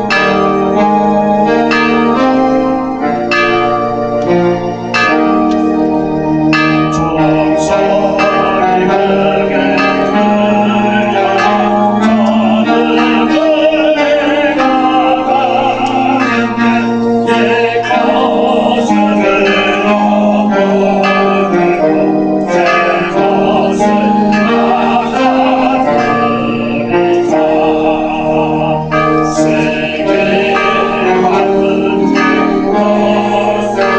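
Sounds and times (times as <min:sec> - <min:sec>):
organ-like chords: 0:00.0 - 0:33.9
voices singing slow melody: 0:00.0 - 0:33.9
bright struck notes: 0:01.6 - 0:33.9.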